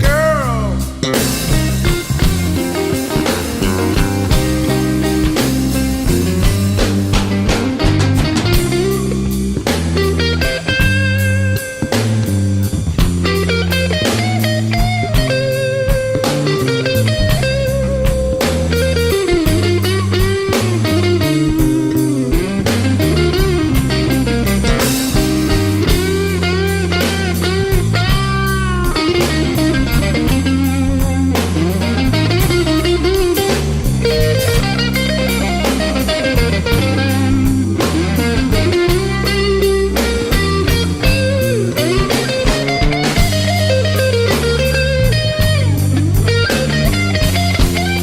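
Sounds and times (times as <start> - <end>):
bass line: 0.0 - 48.0
drum kit: 0.0 - 48.0
lead guitar bending notes: 0.0 - 48.0.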